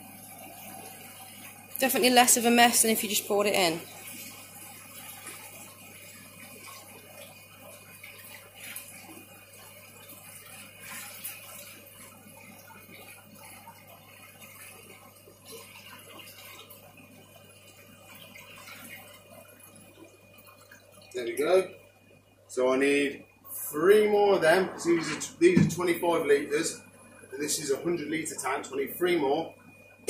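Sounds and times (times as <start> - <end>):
water spilling into tank: 0.0 - 21.9, 23.5 - 29.4.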